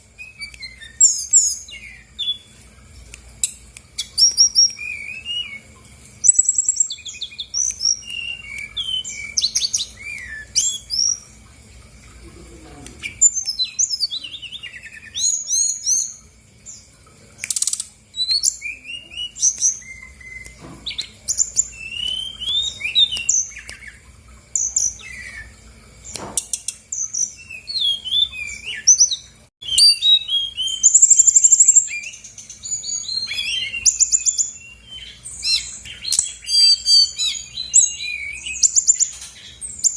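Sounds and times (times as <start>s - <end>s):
bird singing varied song: 0.0s - 11.4s, 12.4s - 39.9s.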